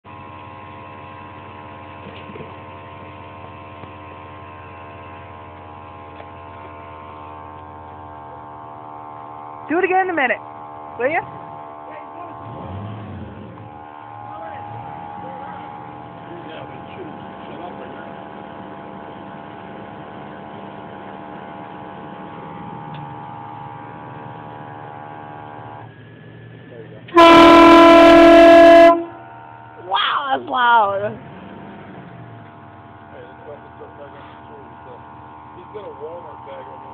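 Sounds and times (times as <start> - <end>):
steady hum of held tones: 0.1 - 31.2, 32.3 - 36.9.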